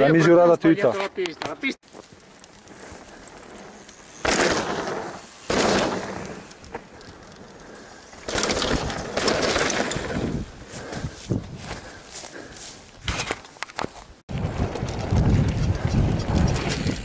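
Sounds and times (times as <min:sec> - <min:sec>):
bike rattling: 0:01.5 - 0:17.0.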